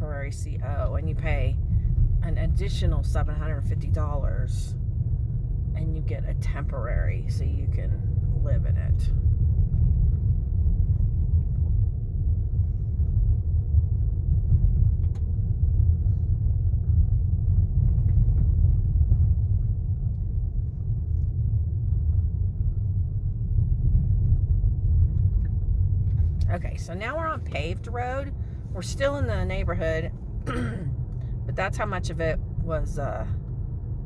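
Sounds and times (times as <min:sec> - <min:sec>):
car driving on dirt road: 0:00.0 - 0:34.0.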